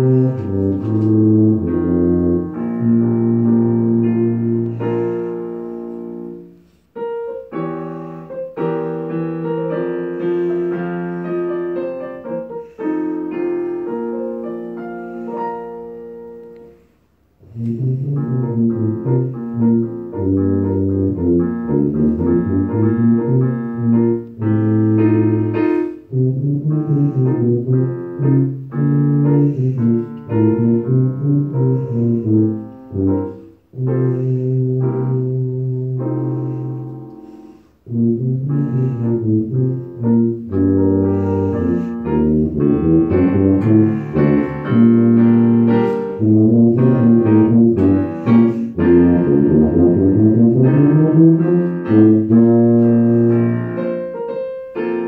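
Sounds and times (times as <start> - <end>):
piano chords: 0.0 - 55.0
tuba playing low notes: 0.0 - 55.0.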